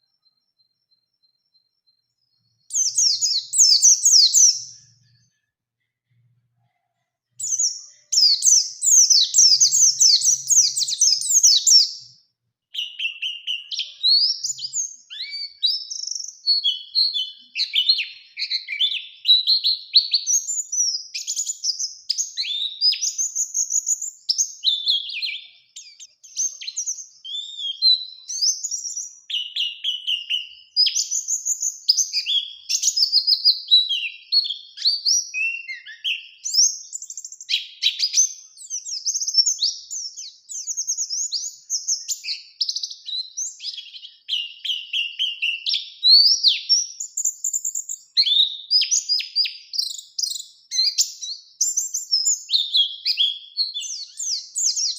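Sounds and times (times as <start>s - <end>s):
bird singing high twittering notes: 0.0s - 5.4s, 7.4s - 12.1s, 12.7s - 54.9s.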